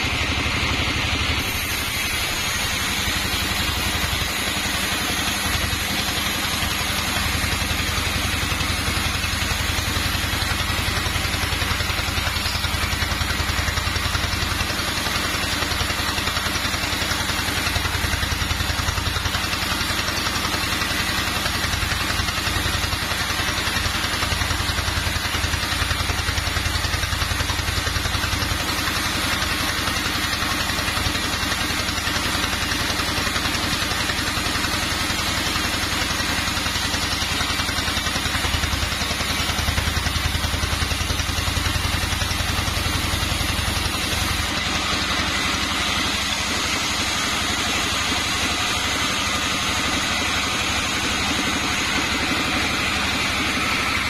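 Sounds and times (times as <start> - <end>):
band saw running: 0.0 - 54.0.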